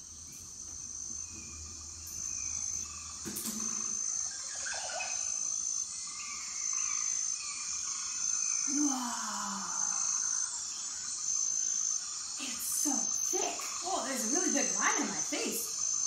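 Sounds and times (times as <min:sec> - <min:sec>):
insects trilling: 0:00.0 - 0:16.0
steady hiss: 0:00.0 - 0:16.0.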